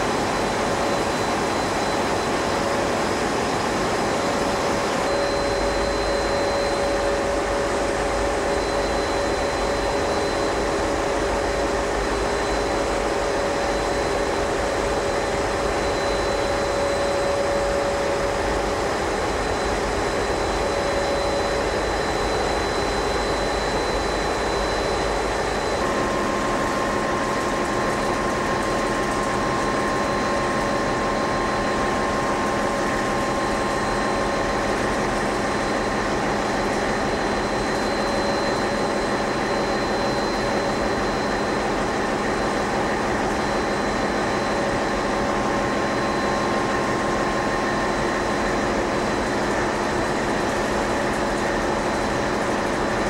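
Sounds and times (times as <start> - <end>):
ship engine room machinery din: 0.0 - 53.0.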